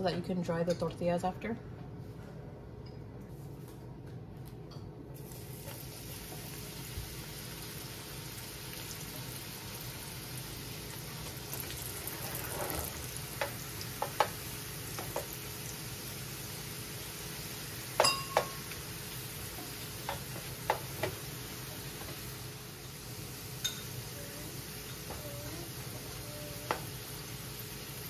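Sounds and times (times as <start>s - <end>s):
tortillas sizzling in oil: 5.2s - 28.0s.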